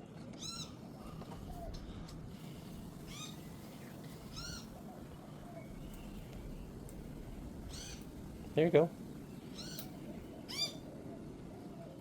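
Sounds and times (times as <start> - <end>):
low background rumble: 0.0 - 12.0
birds crying: 0.4 - 6.8, 7.6 - 8.2, 9.3 - 12.0.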